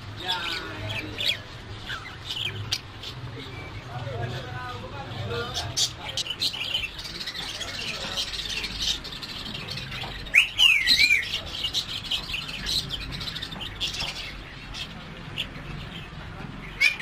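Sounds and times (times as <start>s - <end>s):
caged birds chirping: 0.0s - 17.0s.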